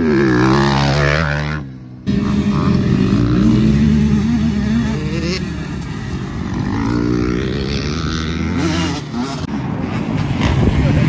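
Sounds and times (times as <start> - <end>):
dirt bike engine revving: 0.0 - 9.5.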